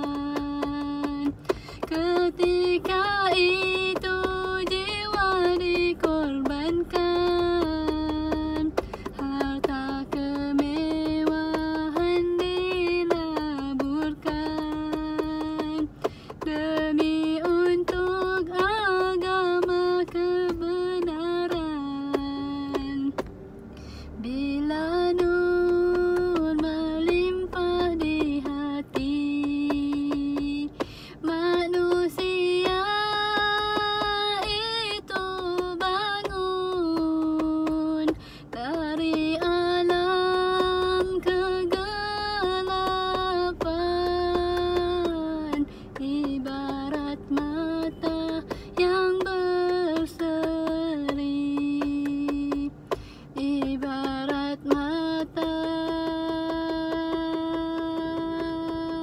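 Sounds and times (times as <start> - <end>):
woman singing: 0.0 - 23.2, 24.2 - 59.0.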